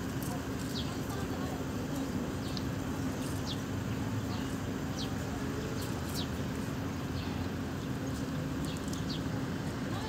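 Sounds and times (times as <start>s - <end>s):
small birds chirping: 0.1s - 10.0s.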